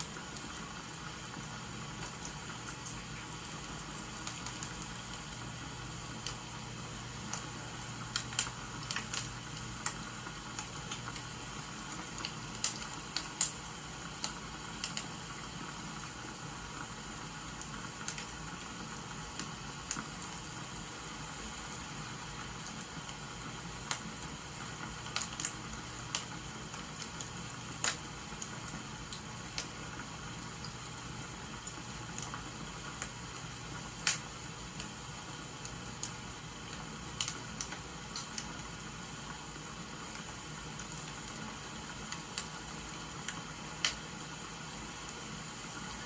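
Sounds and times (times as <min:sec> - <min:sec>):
steady rain: 0:00.0 - 0:46.0
wood fire crackling: 0:00.0 - 0:46.0.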